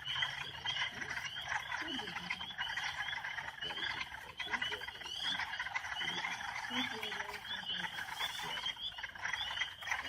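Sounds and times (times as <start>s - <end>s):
frogs peeping chorus: 0.0s - 10.0s.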